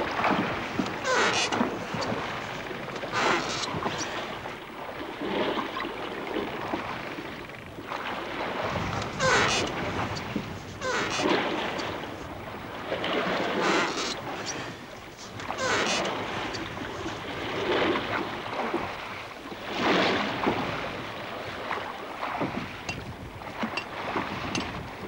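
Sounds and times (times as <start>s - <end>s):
sea water washing in surges: 0.0s - 25.0s
wind: 0.0s - 25.0s.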